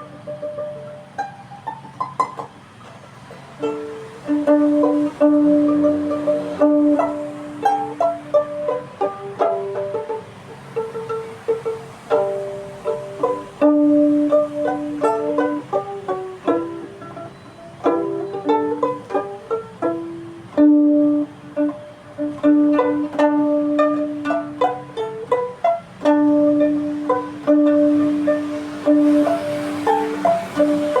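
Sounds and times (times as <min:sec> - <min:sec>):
solo string instrument melody: 0:00.0 - 0:31.0.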